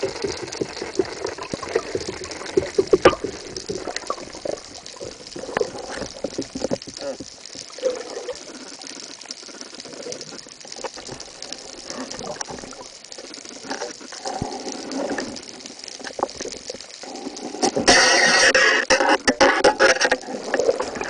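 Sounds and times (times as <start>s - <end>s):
underwater clicks crackling: 0.0s - 21.0s
water hiss: 0.0s - 21.0s.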